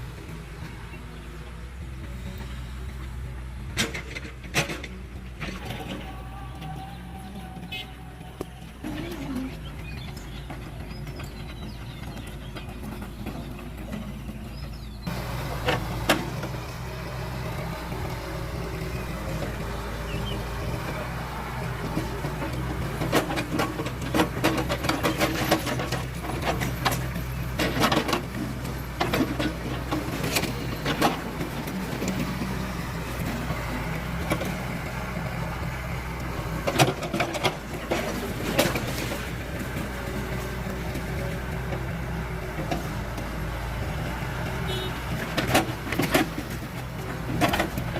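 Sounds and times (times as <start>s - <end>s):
heavy engine running: 0.0s - 47.9s.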